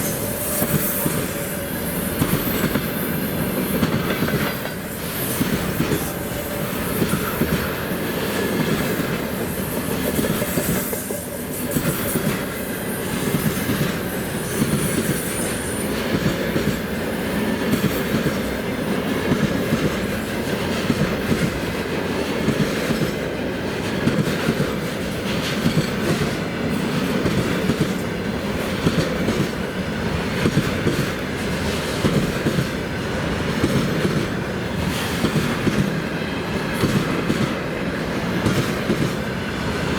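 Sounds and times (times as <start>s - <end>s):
train wheels clickety-clack on rails: 0.0s - 39.9s.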